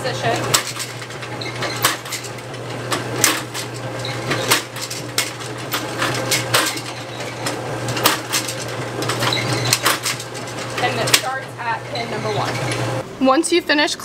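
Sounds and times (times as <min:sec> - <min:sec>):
machine hum: 0:00.0 - 0:14.0
sharp metal clanks and clicks: 0:00.2 - 0:12.9.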